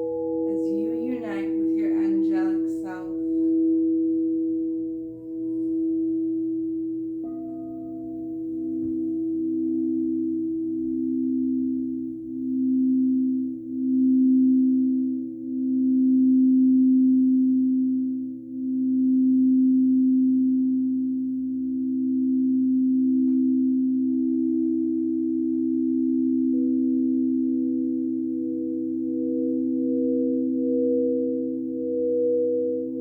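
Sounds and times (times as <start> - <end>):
singing bowls ringing: 0.0 - 33.0.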